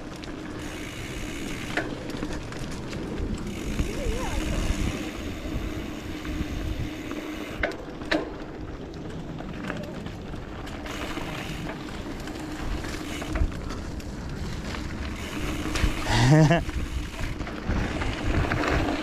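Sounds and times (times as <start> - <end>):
bicycle tyres rolling on dirt: 0.0 - 19.0
wind rumble on microphone: 2.0 - 19.0.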